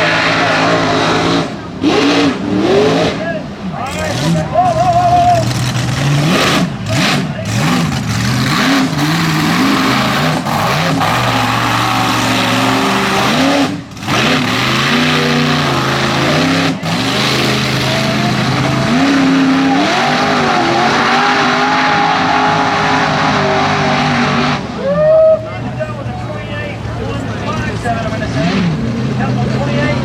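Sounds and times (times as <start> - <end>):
constant rush of noise: 0.0 - 30.0
truck engines revving hard: 0.0 - 30.0.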